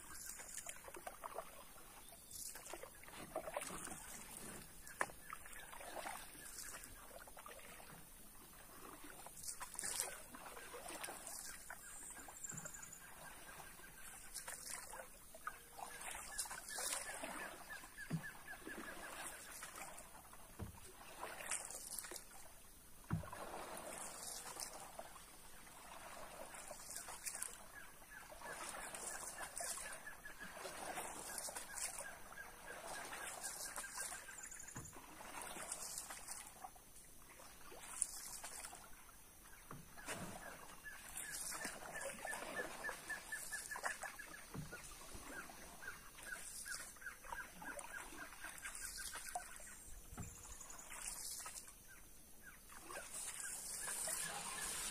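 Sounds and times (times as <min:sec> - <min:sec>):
paddle pulling through water: 0:00.0 - 0:54.9.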